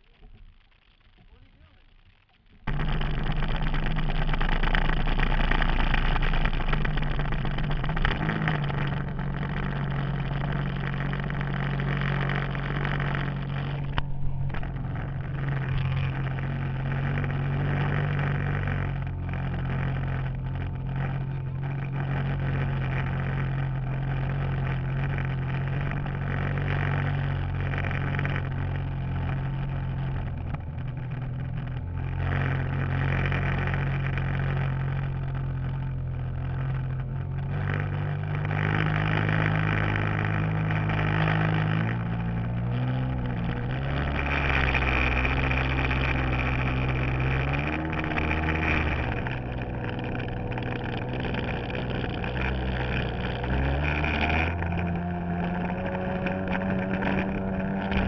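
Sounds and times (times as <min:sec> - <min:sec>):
jet ski engine running: 0:00.0 - 0:58.0
wind: 0:00.0 - 0:58.0.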